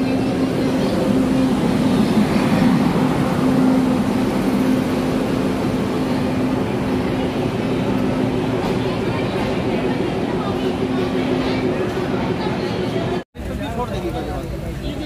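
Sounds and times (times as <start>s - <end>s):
electric locomotive hum and rumble: 0.0s - 15.0s.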